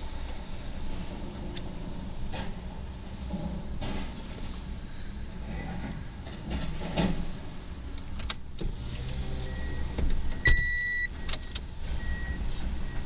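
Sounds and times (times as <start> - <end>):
excavator engine rumble: 0.0 - 13.0.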